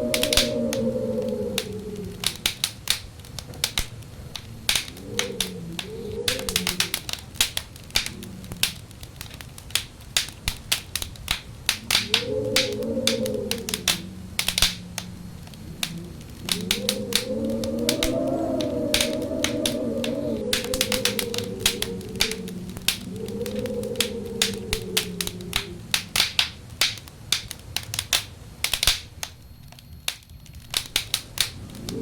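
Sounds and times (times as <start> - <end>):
wind howling: 0.0 - 27.3, 28.9 - 32.0
wood fire crackling and popping: 0.0 - 32.0.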